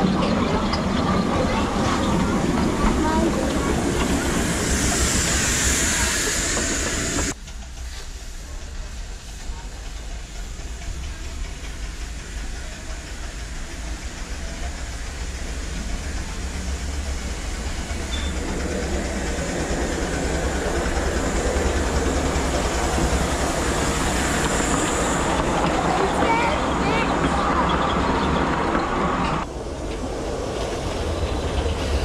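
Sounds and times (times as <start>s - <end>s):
miniature train running on track: 0.0s - 32.0s.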